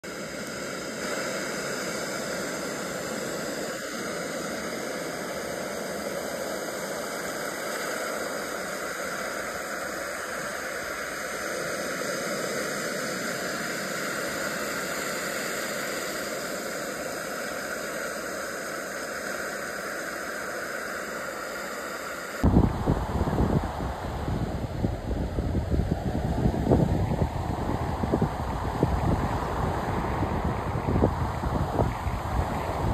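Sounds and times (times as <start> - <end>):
ocean surf rushing: 0.0 - 32.9.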